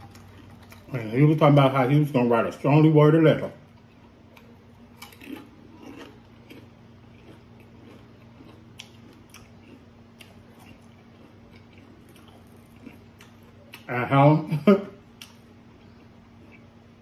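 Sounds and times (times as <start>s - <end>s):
chewing tortilla chip: 0.0s - 1.8s, 3.7s - 14.1s, 15.1s - 17.0s.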